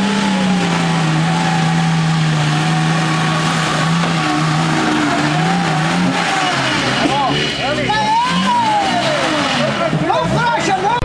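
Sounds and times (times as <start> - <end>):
off-road engine at high revs: 0.0 - 11.0.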